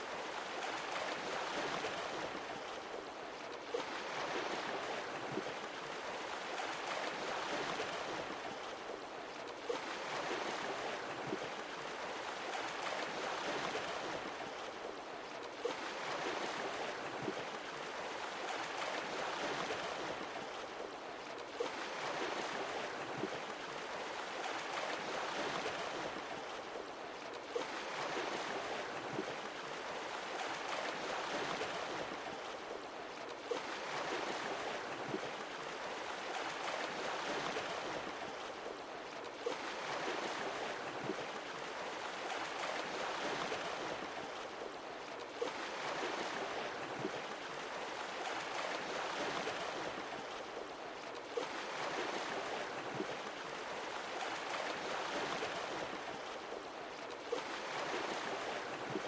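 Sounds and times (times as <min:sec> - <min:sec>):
sea waves washing on shore: 0:00.0 - 0:59.0.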